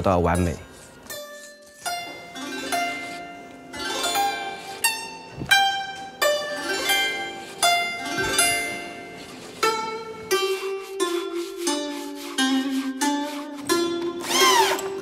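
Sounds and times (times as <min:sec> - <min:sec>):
plucked zither notes: 0:00.0 - 0:15.0.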